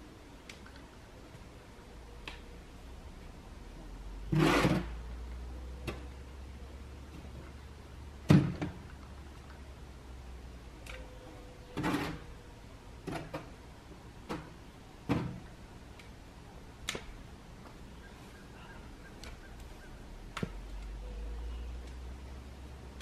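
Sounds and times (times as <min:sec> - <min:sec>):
faint low rumble: 0:00.0 - 0:23.0.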